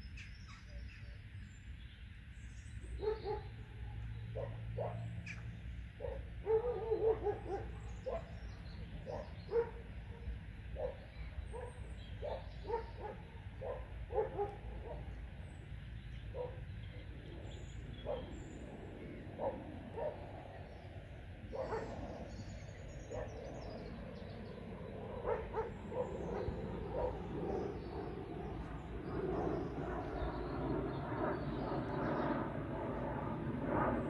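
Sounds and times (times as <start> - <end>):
faint bird chirps: 0.0 - 32.4.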